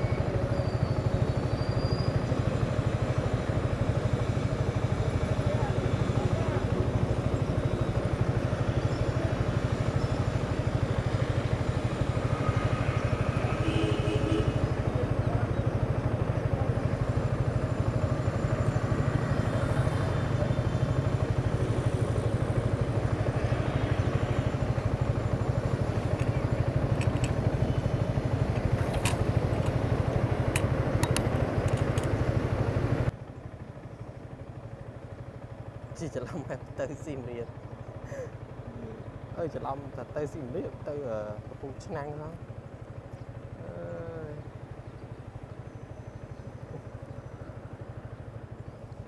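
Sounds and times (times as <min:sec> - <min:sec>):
motorcycle engine running: 0:00.0 - 0:49.0
road and wind noise: 0:00.0 - 0:49.0.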